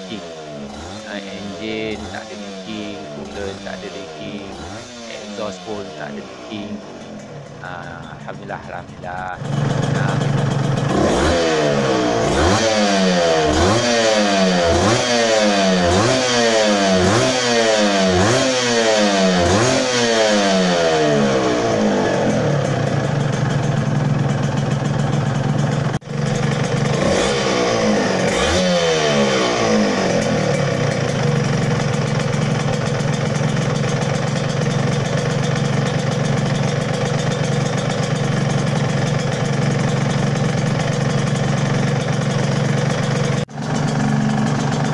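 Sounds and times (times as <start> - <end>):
two-stroke engine revving and idling: 0.0 - 44.9.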